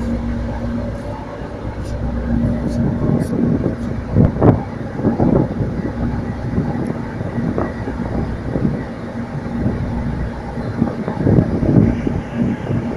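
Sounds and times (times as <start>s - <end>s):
boat engine rumble: 0.0s - 12.9s
faint constant hum: 0.0s - 12.9s
wind buffeting microphone: 0.0s - 12.9s.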